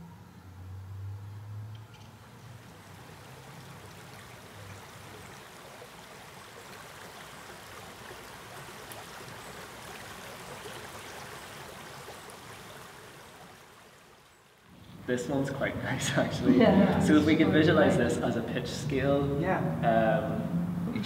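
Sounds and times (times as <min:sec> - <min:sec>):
running water rushing: 0:01.9 - 0:21.0.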